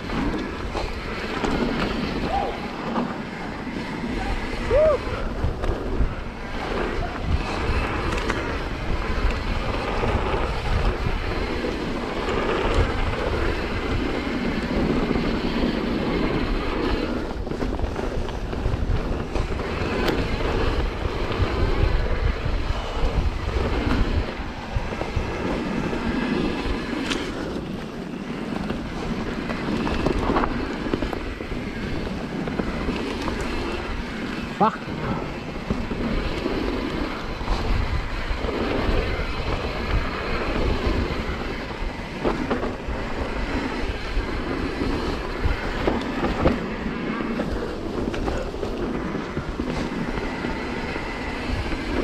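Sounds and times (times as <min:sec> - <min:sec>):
bike rattling: 0:00.0 - 0:52.0
tyres rolling on dirt: 0:00.0 - 0:52.0
wind rushing over microphone: 0:00.0 - 0:52.0.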